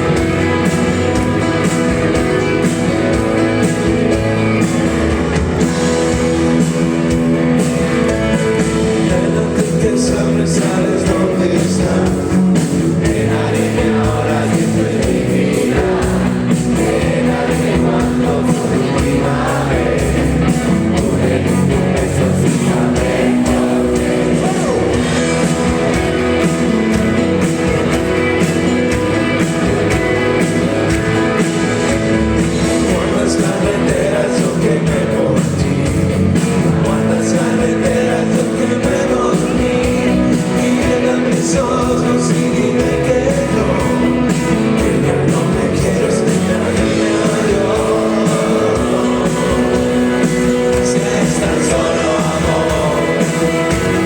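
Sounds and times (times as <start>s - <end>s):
electric guitar: 0.0s - 54.0s
rock band playing live: 0.0s - 54.0s.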